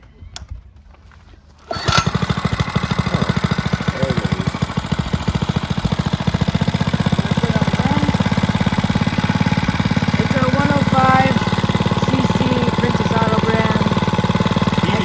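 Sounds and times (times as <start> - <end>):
mini bike engine starting and running: 0.0 - 15.0.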